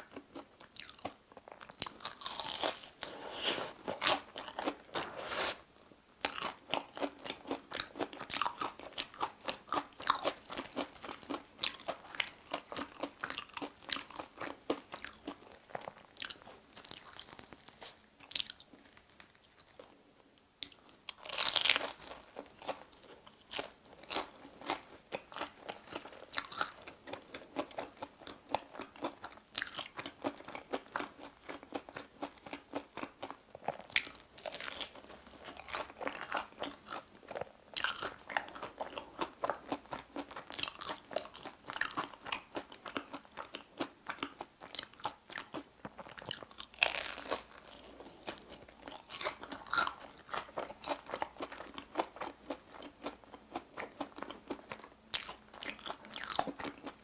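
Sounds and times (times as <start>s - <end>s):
crunchy chewing: 0.0s - 5.6s, 6.2s - 20.0s, 20.6s - 57.0s.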